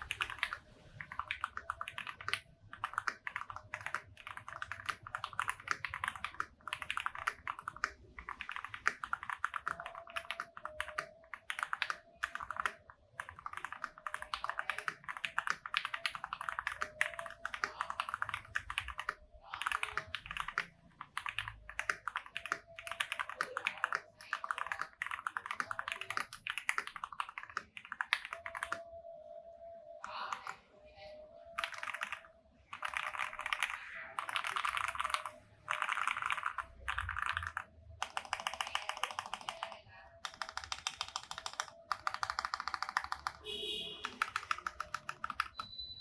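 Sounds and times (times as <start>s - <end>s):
mechanical keyboard typing: 0.0s - 30.6s, 31.4s - 46.0s.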